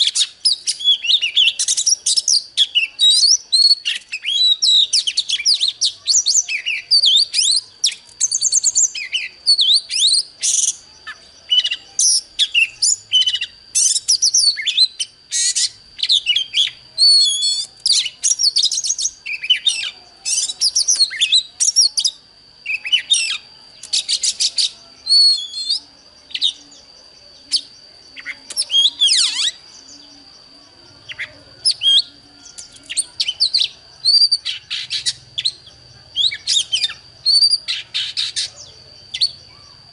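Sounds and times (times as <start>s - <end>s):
bird singing: 0.0s - 39.9s
thin steady high tone: 0.0s - 39.9s.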